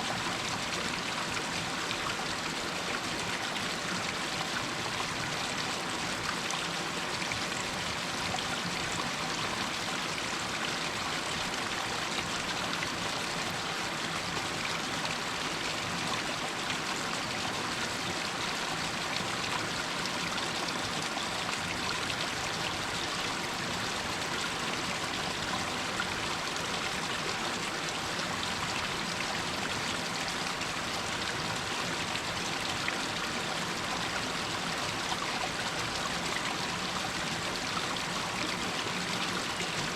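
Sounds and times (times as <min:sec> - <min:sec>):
stream splashing over rocks: 0:00.1 - 0:39.9.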